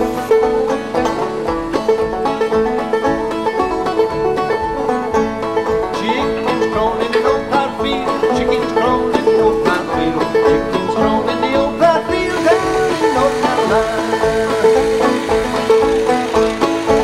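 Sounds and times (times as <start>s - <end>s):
string band music with banjo: 0.0s - 17.0s.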